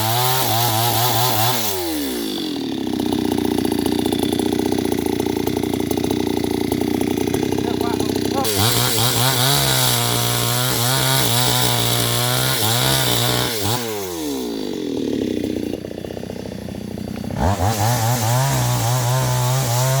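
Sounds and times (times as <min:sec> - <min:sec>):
chainsaw revving: 0:00.0 - 0:20.0.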